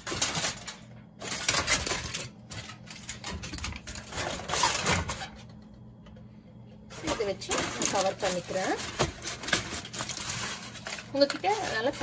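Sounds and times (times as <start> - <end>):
aluminium foil crinkling: 0.0 - 5.6, 6.9 - 12.0.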